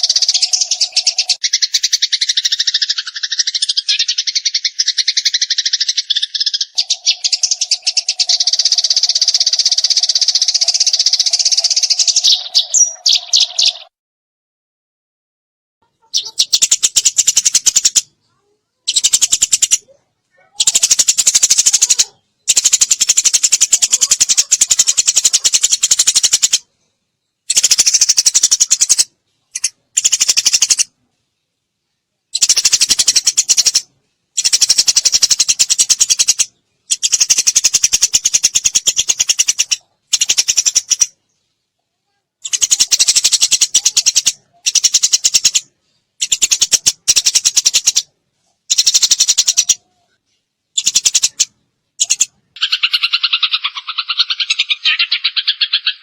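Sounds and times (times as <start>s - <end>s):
sparrow chattering: 0.0s - 13.9s, 15.8s - 26.7s, 27.4s - 31.0s, 32.3s - 41.3s, 42.4s - 56.0s.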